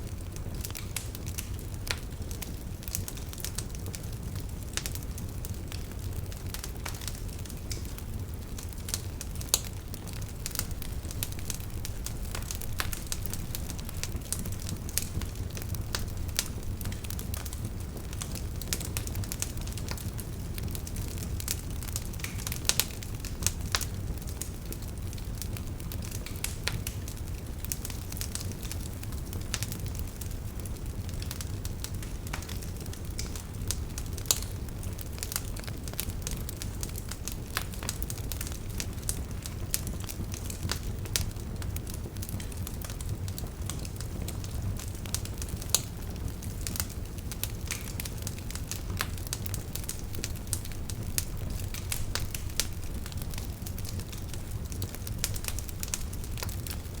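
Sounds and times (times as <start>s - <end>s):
campfire burning and crackling: 0.0s - 57.0s.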